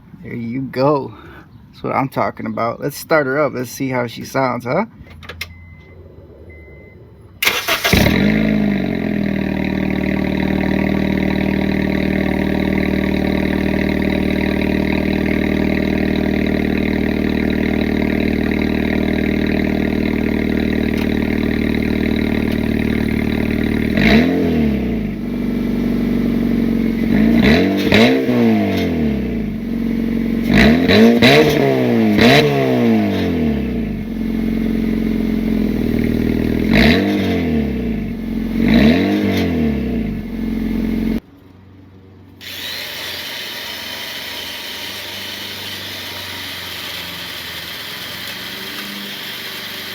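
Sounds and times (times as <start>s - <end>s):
car engine cranking and starting: 4.9s - 41.2s, 42.4s - 49.9s
car engine idling: 4.9s - 41.2s, 44.7s - 49.9s
engine revving: 6.0s - 41.2s, 42.4s - 49.9s.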